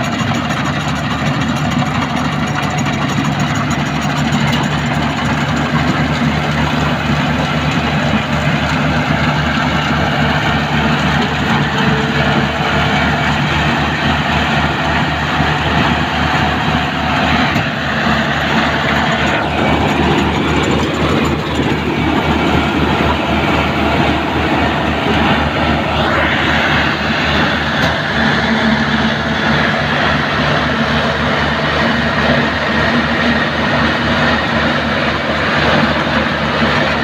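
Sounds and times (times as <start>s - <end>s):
combine harvester engine drone: 0.0s - 37.0s
machinery rattling: 0.0s - 37.0s.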